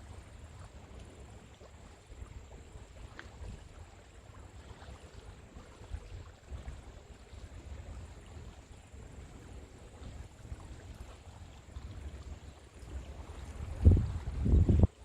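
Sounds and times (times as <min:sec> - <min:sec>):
waves lapping on shore: 0:00.0 - 0:15.0.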